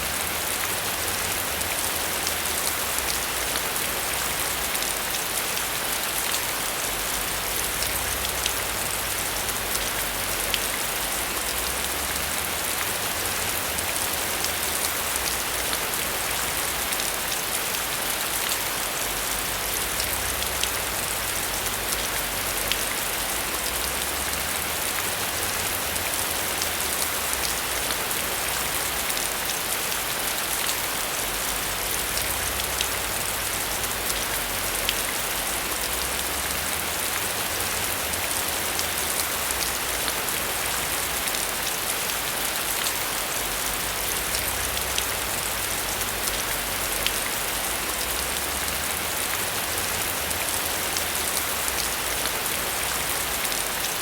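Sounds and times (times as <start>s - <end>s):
heavy rain on surfaces: 0.0s - 54.0s.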